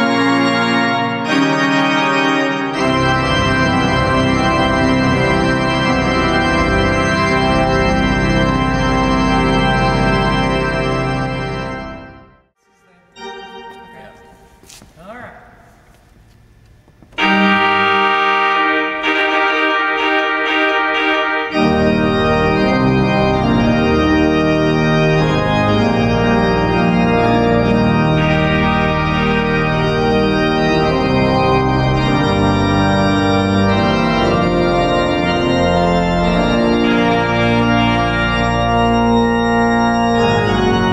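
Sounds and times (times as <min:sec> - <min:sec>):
deep organ bass notes: 0:00.0 - 0:12.4, 0:15.7 - 0:40.9
organ playing chords: 0:00.0 - 0:40.9.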